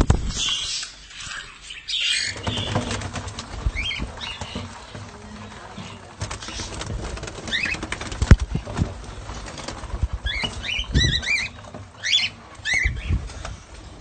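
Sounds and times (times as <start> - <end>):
parrots chirping: 0.3 - 8.2, 10.2 - 13.5
birds knocking and fluttering in cage: 2.2 - 14.0.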